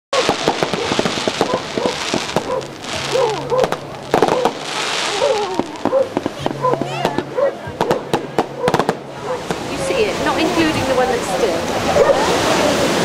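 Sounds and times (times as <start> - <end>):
fireworks crackling: 0.1 - 11.5
fireworks pops and bangs: 0.2 - 10.8.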